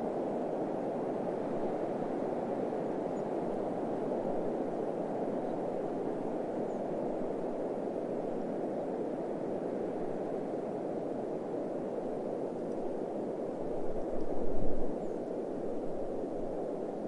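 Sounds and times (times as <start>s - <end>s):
desert wind rushing: 0.0s - 17.0s.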